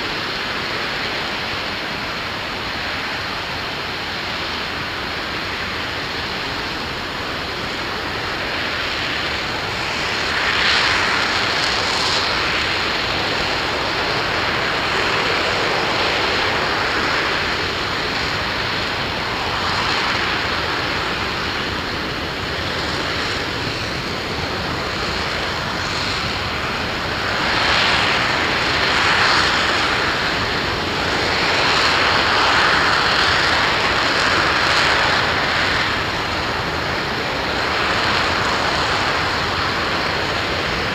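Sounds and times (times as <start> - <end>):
rocket engine roaring: 0.0 - 40.9.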